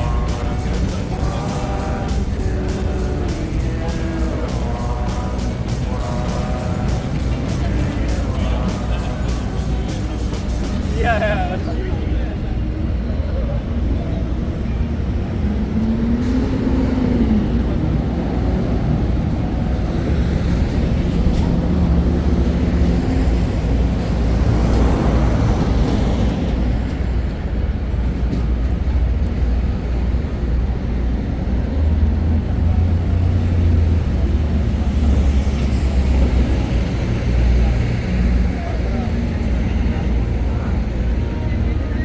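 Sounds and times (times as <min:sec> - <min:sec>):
city background rumble: 0:00.0 - 0:42.0.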